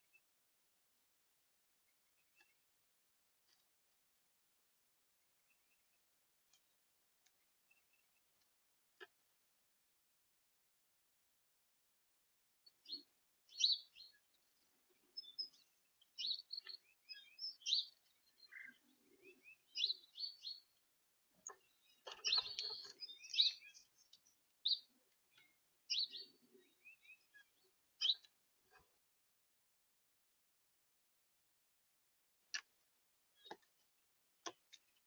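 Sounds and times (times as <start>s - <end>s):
songbirds chirping: 0.0s - 9.8s, 12.6s - 29.0s, 32.5s - 35.0s.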